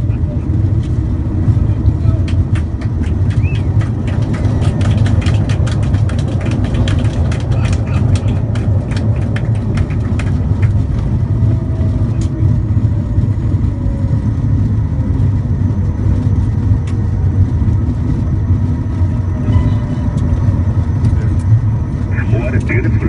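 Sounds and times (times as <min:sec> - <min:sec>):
jet aircraft rumble: 0:00.0 - 0:23.0.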